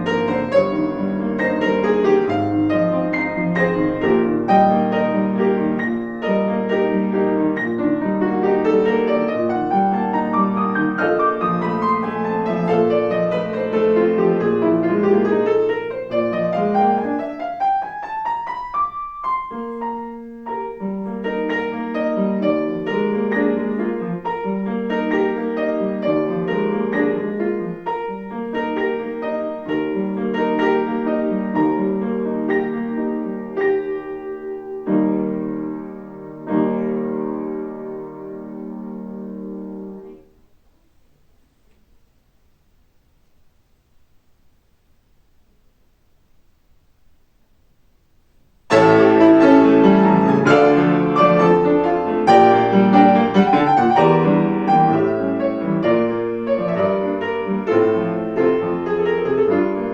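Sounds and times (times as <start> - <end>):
piano playing classical piece: 0.0 - 40.4, 48.7 - 59.9.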